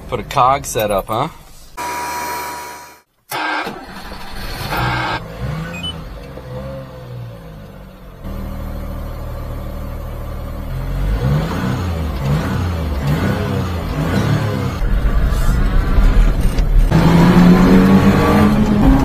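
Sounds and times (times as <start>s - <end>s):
truck engine revving: 3.3s - 19.0s.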